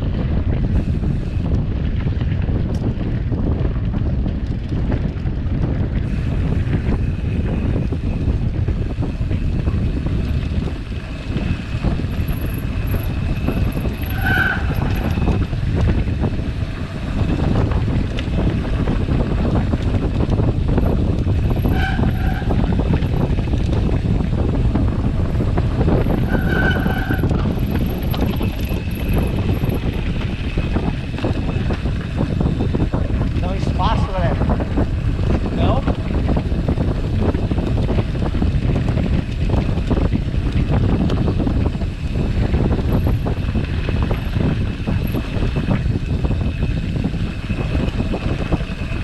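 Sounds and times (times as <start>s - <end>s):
bike rolling over dirt road: 0.0s - 33.7s, 34.5s - 49.0s
wind buffeting microphone: 0.0s - 49.0s.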